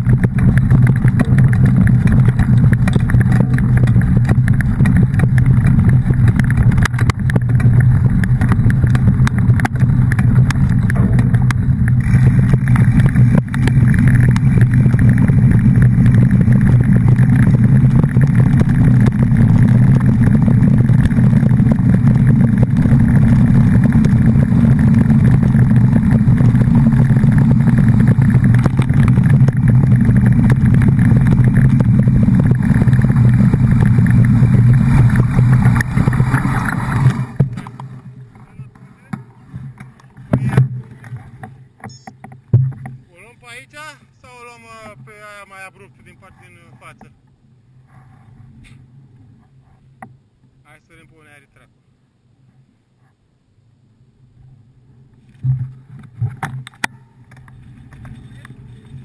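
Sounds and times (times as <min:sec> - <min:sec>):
engine drone: 0:00.0 - 0:52.7, 0:53.4 - 0:59.0.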